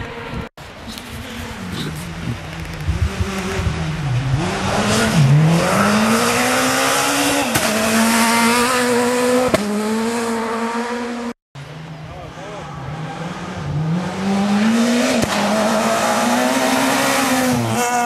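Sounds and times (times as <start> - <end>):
rally car engine revving: 1.3 - 11.4, 12.6 - 18.0.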